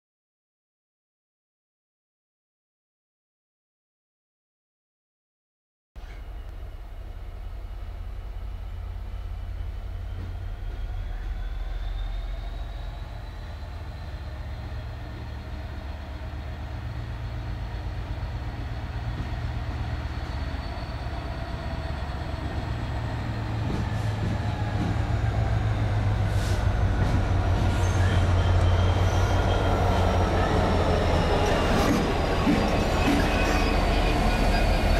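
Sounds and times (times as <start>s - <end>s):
diesel locomotive engine rumble: 6.0s - 34.9s.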